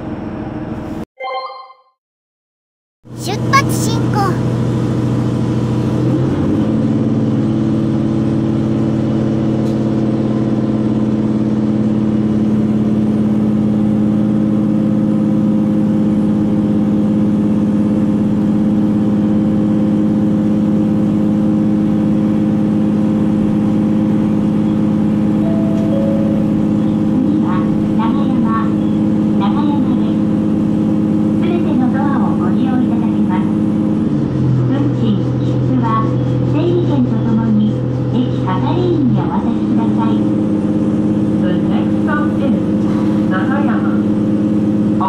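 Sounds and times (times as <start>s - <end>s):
railcar engine drone: 4.4s - 45.0s.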